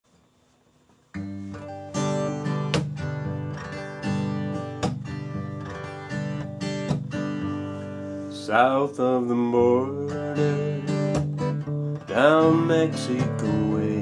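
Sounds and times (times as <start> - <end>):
acoustic guitar strumming: 1.1 - 14.0.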